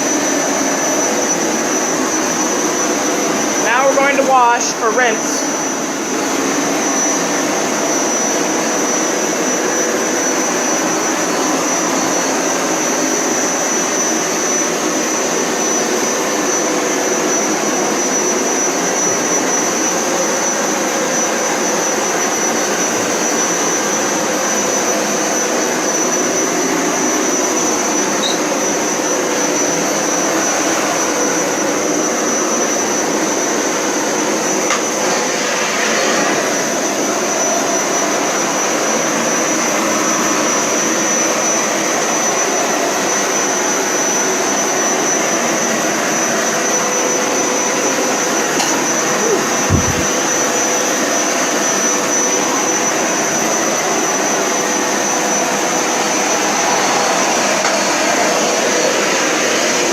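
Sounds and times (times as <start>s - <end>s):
carpet cleaner motor running: 0.0s - 59.9s.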